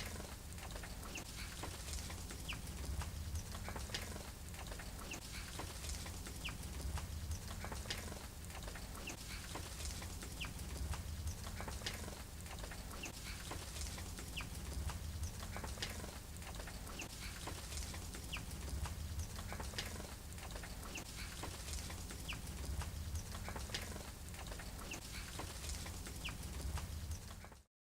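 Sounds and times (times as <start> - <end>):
small birds chirping: 0.0 - 27.7.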